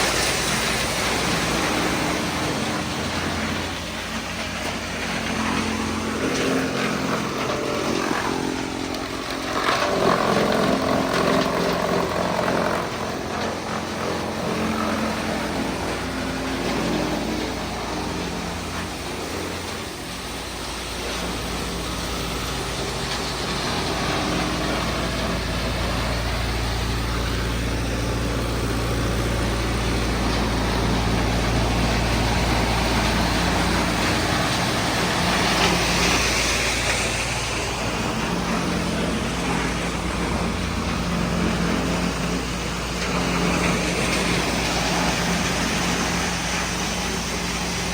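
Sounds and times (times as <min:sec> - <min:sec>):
wood chipper running: 0:00.0 - 0:47.9.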